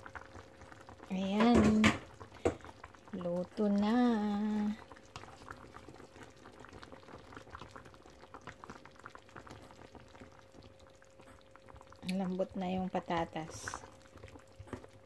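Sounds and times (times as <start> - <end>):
faint steady hum: 0.0 - 15.0
sauce simmering with small pops: 0.0 - 15.0.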